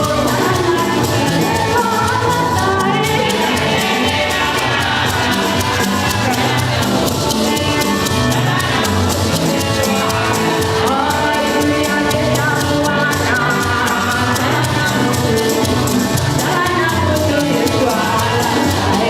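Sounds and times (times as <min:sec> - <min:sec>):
singing over a steady beat: 0:00.0 - 0:19.0.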